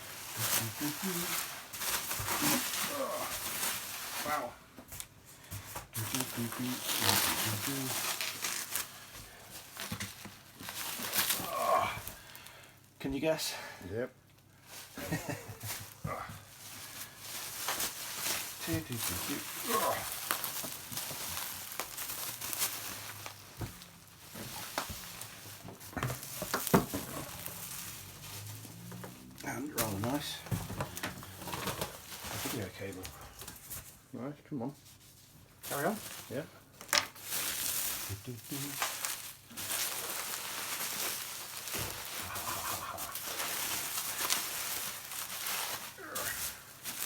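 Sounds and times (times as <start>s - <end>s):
packing material crinkling: 0.0s - 5.2s, 5.8s - 12.7s, 14.5s - 34.0s, 35.0s - 47.0s.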